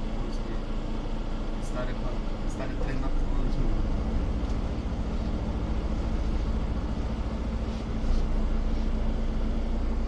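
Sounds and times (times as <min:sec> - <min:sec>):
bus engine drone: 0:00.0 - 0:10.0
road rumble: 0:00.0 - 0:10.0.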